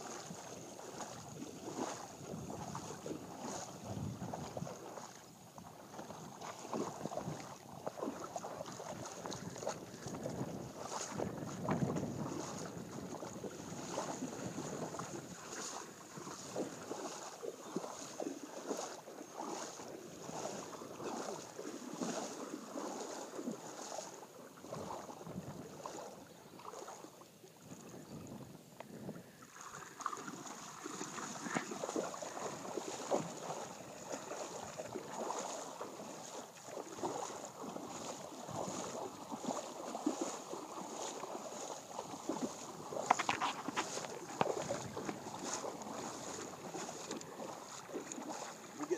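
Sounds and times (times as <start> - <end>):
footsteps splashing in shallow water: 0.0 - 48.9.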